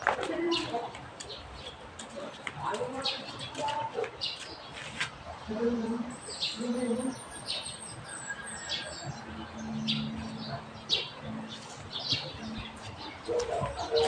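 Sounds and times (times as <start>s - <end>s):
small birds chirping: 0.4s - 5.0s, 5.8s - 14.0s.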